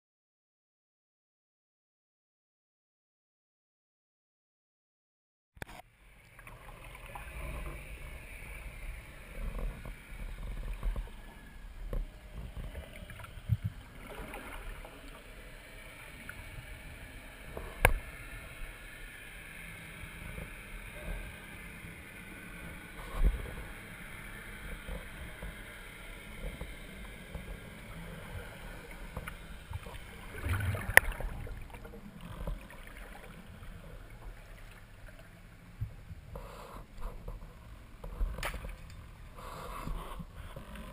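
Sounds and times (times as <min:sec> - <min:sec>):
muffled underwater water wash: 0:05.6 - 0:40.9.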